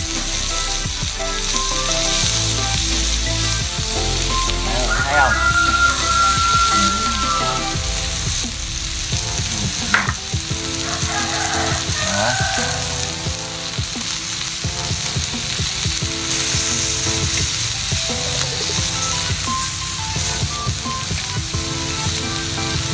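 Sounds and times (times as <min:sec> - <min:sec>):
background music: 0:00.0 - 0:22.9
meat sizzling and frying: 0:00.0 - 0:22.9.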